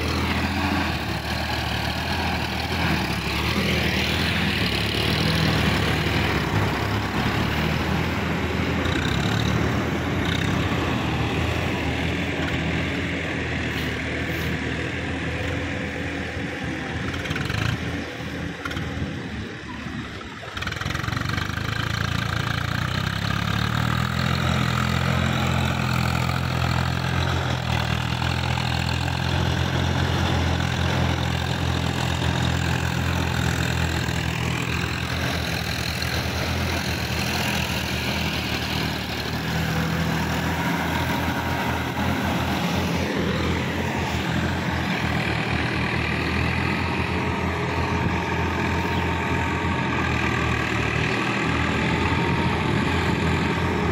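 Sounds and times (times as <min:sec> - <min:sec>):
diesel tractor engine under load: 0:00.0 - 0:53.9.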